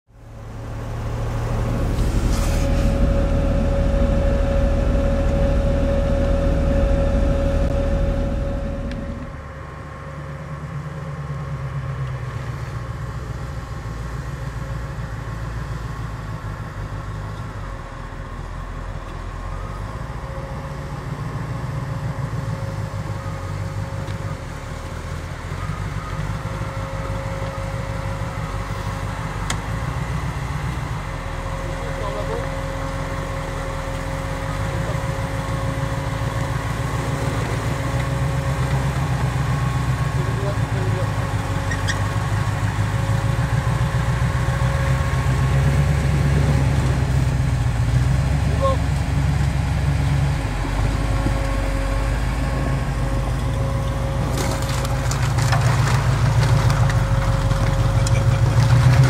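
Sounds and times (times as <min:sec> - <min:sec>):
off-road vehicle engine running: 0:00.1 - 0:59.0.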